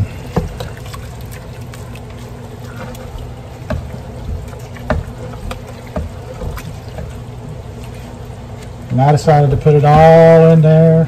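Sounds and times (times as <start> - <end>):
spoon stirring wet mixture: 0.0 - 10.3
steady low hum: 0.0 - 11.0.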